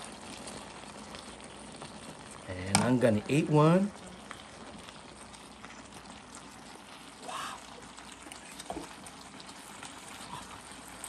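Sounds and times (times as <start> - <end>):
food sizzling and bubbling in a wok: 0.0 - 11.0.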